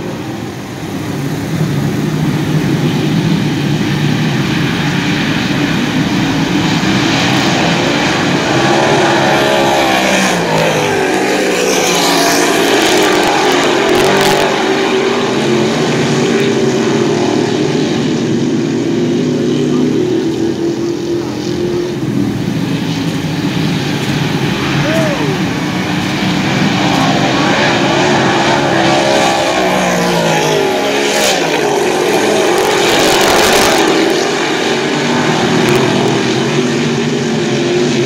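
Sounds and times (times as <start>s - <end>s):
race car engines roaring: 0.0s - 38.0s.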